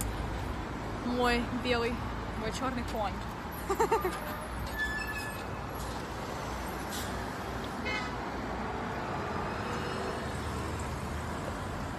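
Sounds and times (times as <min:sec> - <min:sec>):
street traffic hum: 0:00.0 - 0:11.9.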